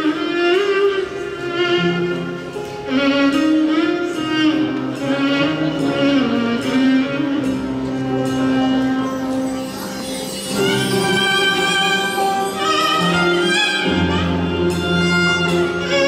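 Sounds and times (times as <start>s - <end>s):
string ensemble with violins: 1.0s - 16.0s.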